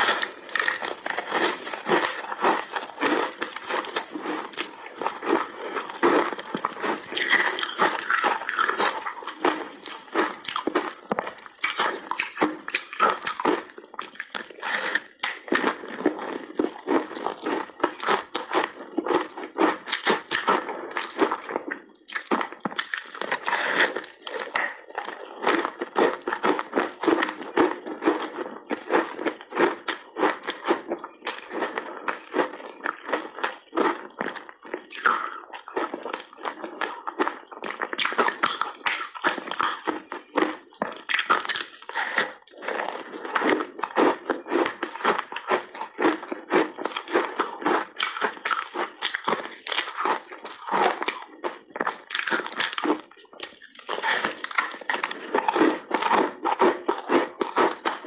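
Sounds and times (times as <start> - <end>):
ice crunching between teeth: 0.0 - 58.0.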